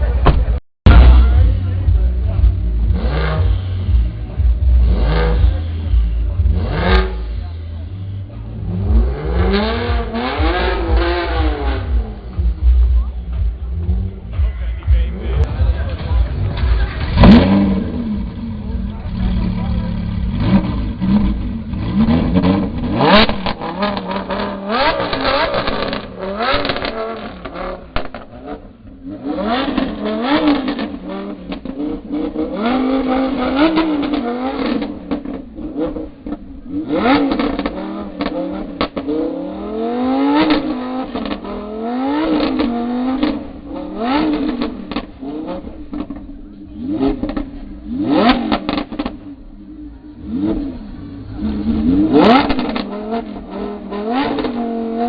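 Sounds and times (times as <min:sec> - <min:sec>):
car engine idling: 0:00.0 - 0:55.0
car engine revving: 0:00.0 - 0:55.0.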